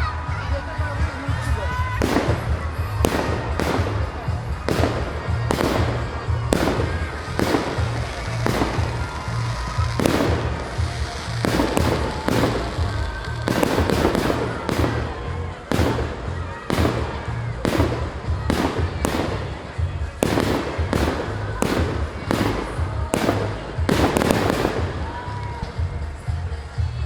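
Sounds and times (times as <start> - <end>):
music playing: 0.0 - 27.0
firework bursts: 1.9 - 26.3.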